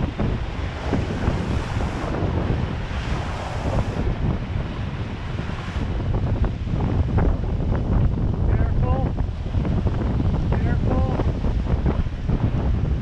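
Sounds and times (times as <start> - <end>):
water rushing along a hull: 0.0 - 13.0
wind buffeting microphone: 0.0 - 13.0.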